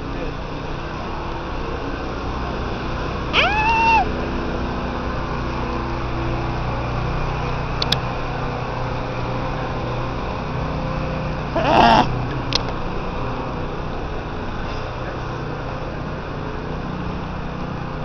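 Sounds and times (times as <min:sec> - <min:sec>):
low hum of street traffic: 0:00.0 - 0:18.0.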